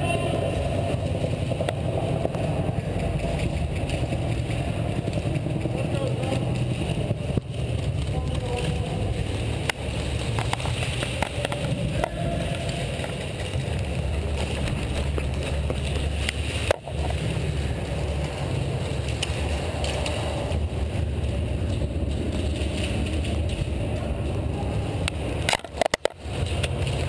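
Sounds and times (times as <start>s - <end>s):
footsteps and gear rumble: 0.0s - 27.0s.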